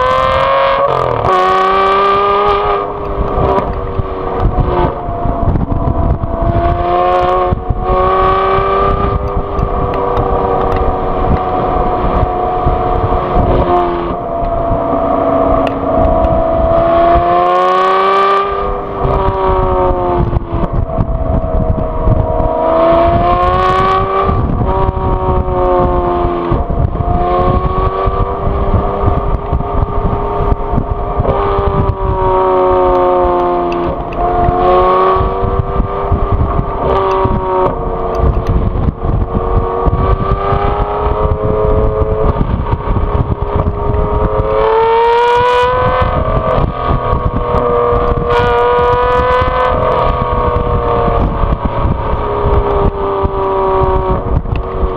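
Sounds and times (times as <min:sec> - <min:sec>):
car engine exhaust revving: 0:00.0 - 0:54.9.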